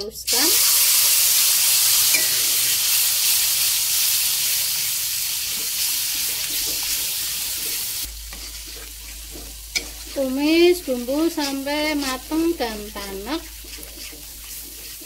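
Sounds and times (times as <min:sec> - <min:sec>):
spice paste sizzling in oil: 0:00.2 - 0:15.0.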